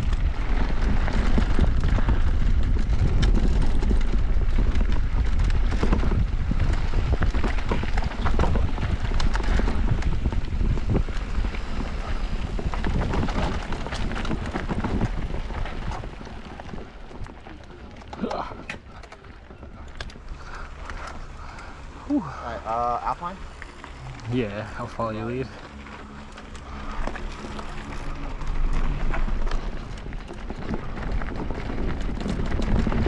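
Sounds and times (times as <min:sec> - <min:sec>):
bike rattling over bumps: 0:00.0 - 0:33.0
bike tyres on dirt: 0:00.0 - 0:33.0
wind buffeting microphone: 0:00.0 - 0:33.0.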